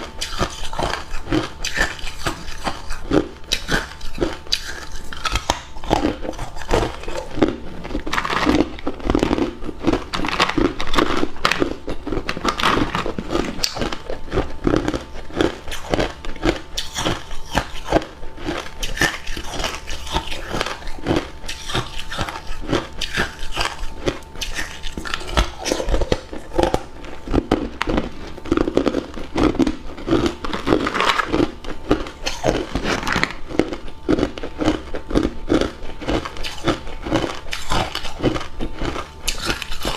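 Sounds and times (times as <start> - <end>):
chewing ice cubes crunching: 0.0 - 39.9.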